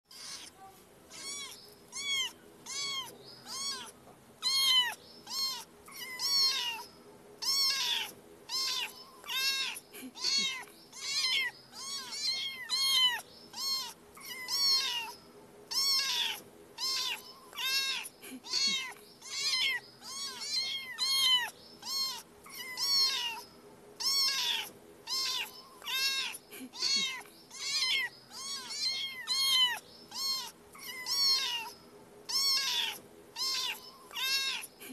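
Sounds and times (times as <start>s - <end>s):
kitten mewing: 0.1s - 23.4s, 24.0s - 31.7s, 32.3s - 34.9s.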